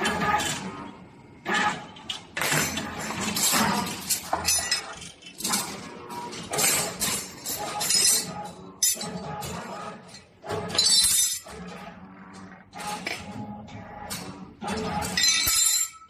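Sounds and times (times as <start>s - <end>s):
wire bending machine clatter: 0.0s - 16.0s.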